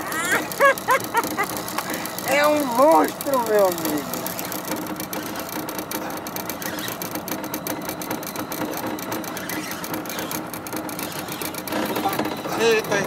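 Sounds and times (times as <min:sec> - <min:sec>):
fast mechanical rattle: 0:00.0 - 0:13.0.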